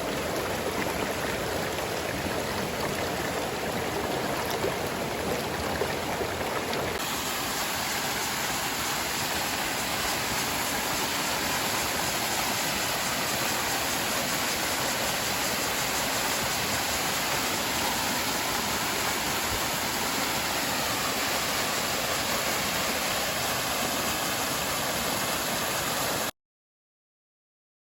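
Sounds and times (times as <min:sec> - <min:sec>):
flowing water rushing: 0:00.0 - 0:26.3.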